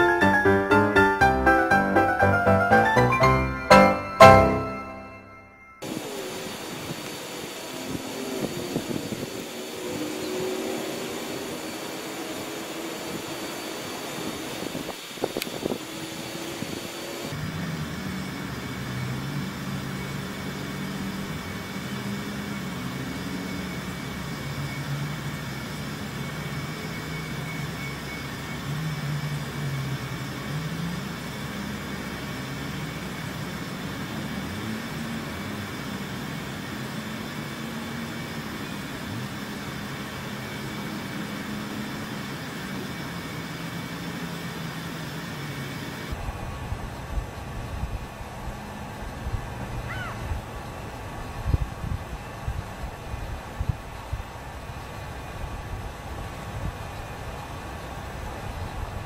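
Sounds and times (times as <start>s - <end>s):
engine drone: 5.3s - 59.0s.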